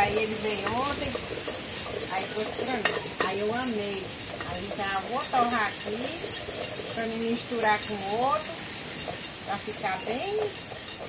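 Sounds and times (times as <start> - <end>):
beans scraping and rattling in pot: 0.0 - 11.0.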